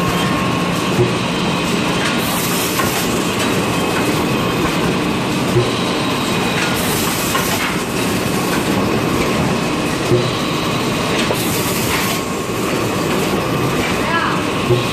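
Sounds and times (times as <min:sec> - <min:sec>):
machine knocking: 0:00.9 - 0:14.9.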